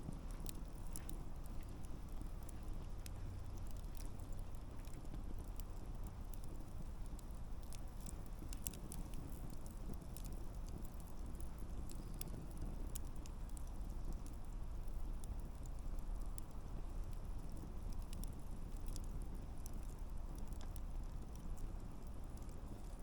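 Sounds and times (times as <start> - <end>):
campfire flame rumble: 0.0 - 23.0
crackles and pops of burning logs: 0.0 - 23.0.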